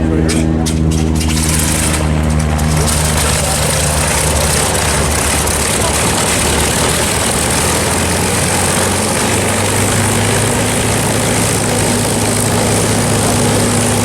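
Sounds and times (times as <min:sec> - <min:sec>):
propeller aircraft engine droning: 0:00.0 - 0:14.0.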